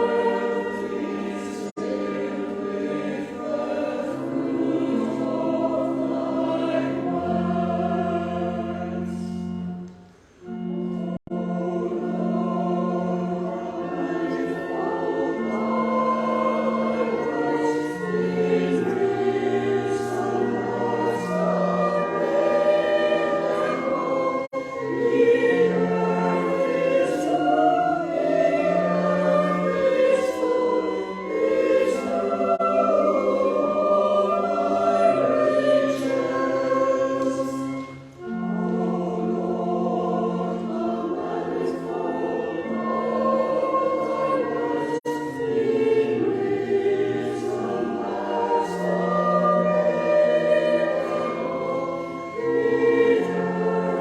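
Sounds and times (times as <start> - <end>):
congregation and choir singing hymn: 0.0 - 54.0.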